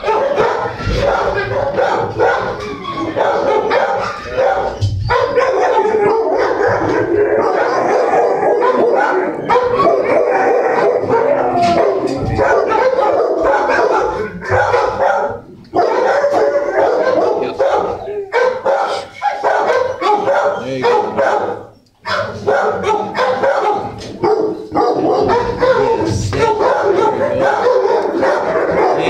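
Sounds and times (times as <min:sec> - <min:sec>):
many dogs barking and howling: 0:00.0 - 0:29.0.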